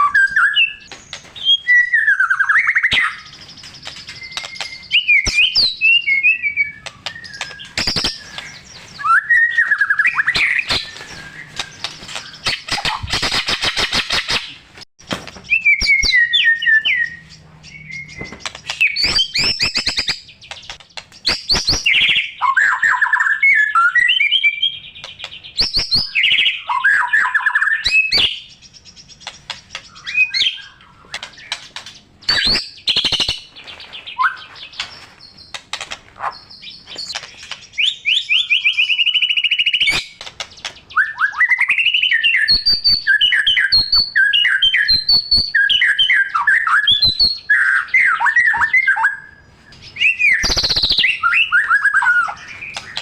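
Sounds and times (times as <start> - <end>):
songbird singing varied song: 0.0 - 13.8, 15.3 - 53.0.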